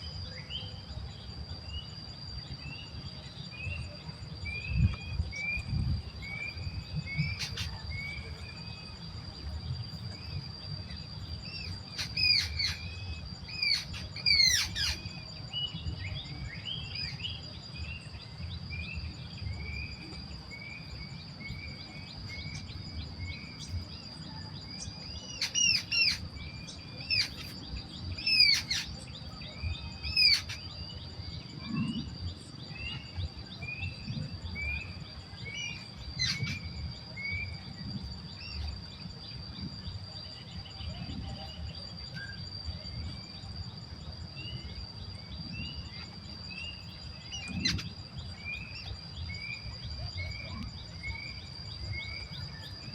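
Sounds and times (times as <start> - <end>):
bird chirps: 0.0 - 43.5, 44.4 - 52.9
high insect drone: 0.0 - 52.9.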